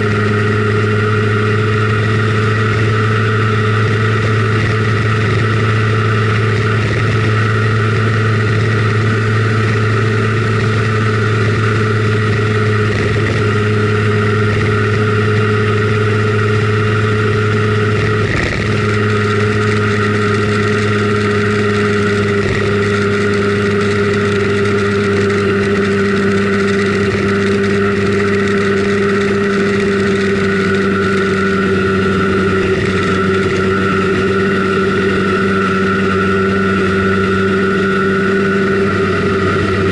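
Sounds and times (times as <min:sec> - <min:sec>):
two-stroke scooter engine: 0:00.0 - 0:39.9.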